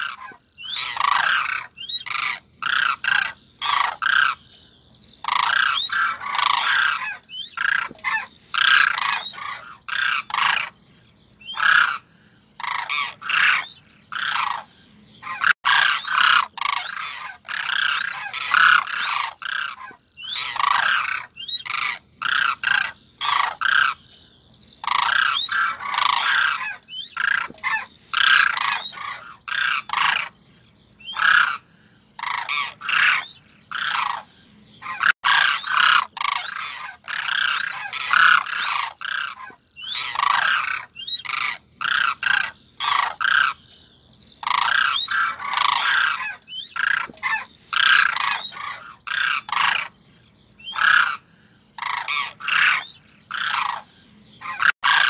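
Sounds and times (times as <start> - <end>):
cranes calling: 0.0 - 55.0.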